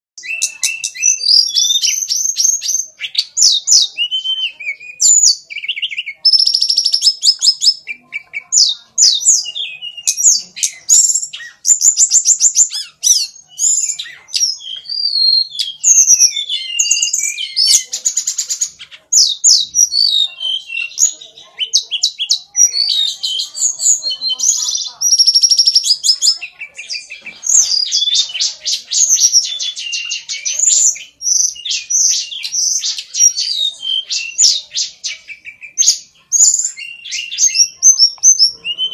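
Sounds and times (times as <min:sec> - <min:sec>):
bird song with trills and whistles: 0:00.2 - 0:38.9.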